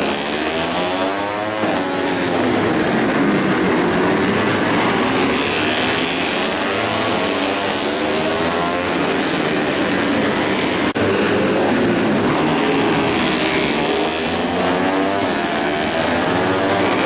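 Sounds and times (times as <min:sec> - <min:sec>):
racing motorcycle engines revving: 0:00.0 - 0:17.0.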